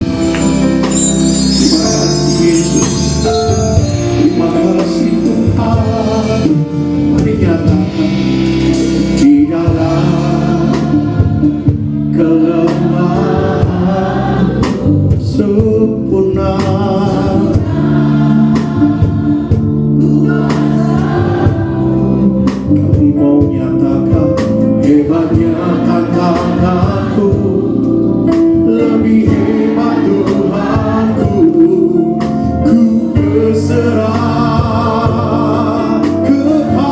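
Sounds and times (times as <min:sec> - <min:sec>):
instrumental accompaniment: 0:00.0 - 0:36.9
voices singing: 0:00.2 - 0:06.7, 0:09.2 - 0:15.6, 0:16.8 - 0:22.6, 0:24.8 - 0:32.0, 0:32.7 - 0:36.9.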